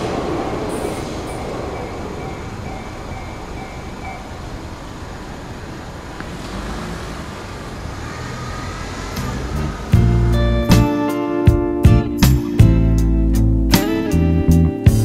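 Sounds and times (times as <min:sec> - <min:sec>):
traffic rumble: 0:00.0 - 0:14.5.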